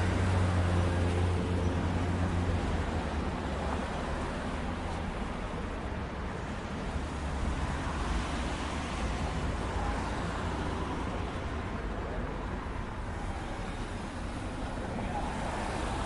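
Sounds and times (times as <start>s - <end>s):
rumble of passing vehicles: 0.0s - 16.0s.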